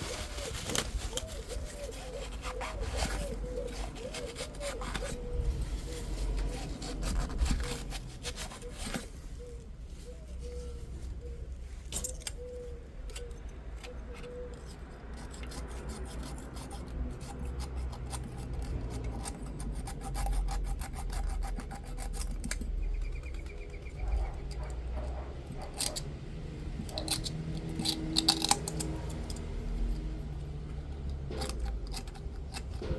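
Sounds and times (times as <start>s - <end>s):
hand tool scraping metal: 0.0s - 9.2s, 11.9s - 32.9s.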